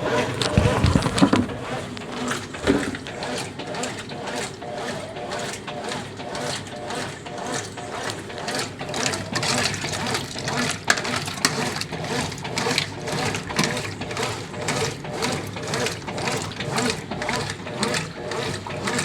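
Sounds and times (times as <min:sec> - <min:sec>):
washing machine churning: 0:00.0 - 0:19.0.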